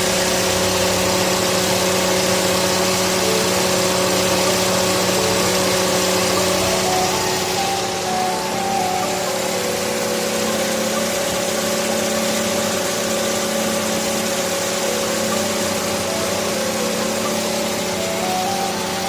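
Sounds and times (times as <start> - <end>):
soft music melody: 0.0 - 19.0.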